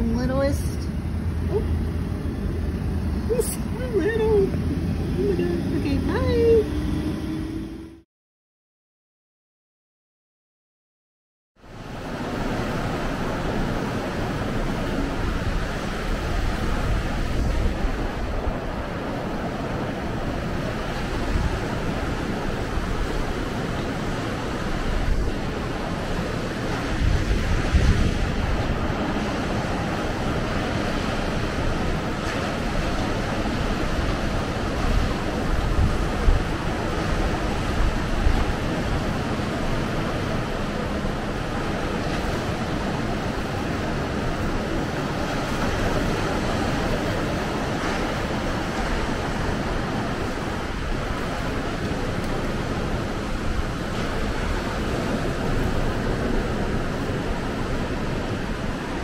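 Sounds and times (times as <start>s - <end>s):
wind buffeting microphone: 0.0s - 8.0s, 11.7s - 59.0s
surf breaking on beach: 11.7s - 59.0s.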